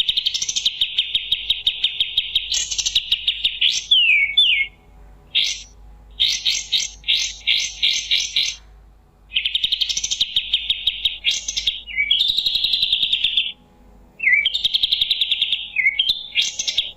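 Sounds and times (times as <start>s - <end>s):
songbird singing rapid trills: 0.0s - 8.7s, 9.3s - 13.6s, 14.2s - 16.9s.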